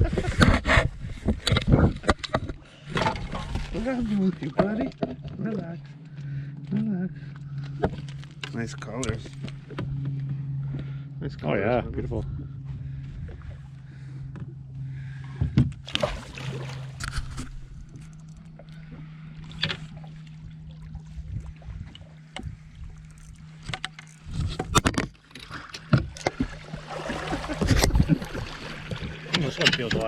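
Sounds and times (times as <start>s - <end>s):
boat motor hum: 0.0s - 30.0s.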